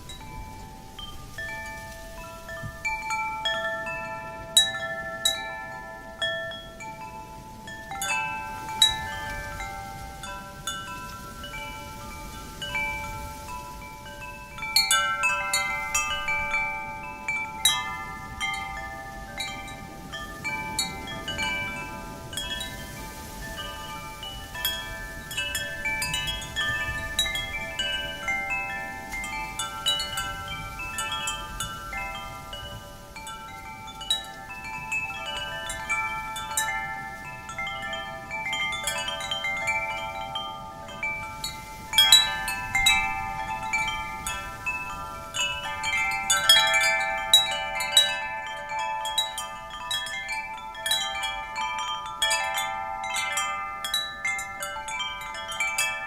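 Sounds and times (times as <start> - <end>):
soft wind rush: 0.0 - 56.0
wind chimes ringing: 0.0 - 56.0.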